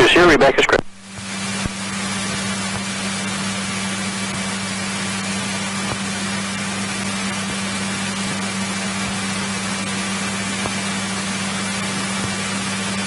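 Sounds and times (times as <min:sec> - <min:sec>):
aircraft engine droning: 0:00.0 - 0:13.0
steady hiss: 0:00.0 - 0:13.0.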